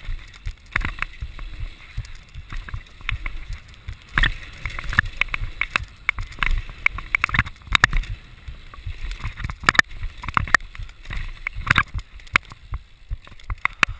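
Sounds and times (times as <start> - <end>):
bike clattering and rattling: 0.0 - 13.9.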